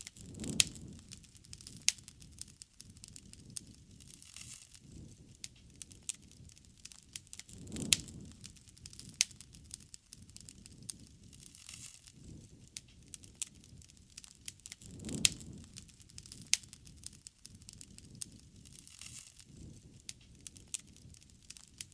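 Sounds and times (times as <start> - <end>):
campfire crackling and popping: 0.0 - 21.9
low rush of flame: 0.0 - 21.9.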